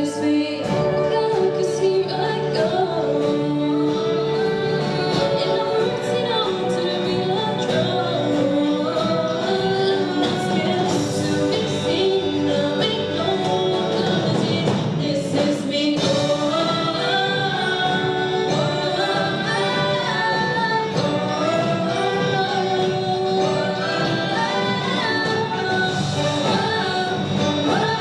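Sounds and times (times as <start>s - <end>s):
live concert music: 0.0s - 28.0s
several voices singing: 3.4s - 28.0s.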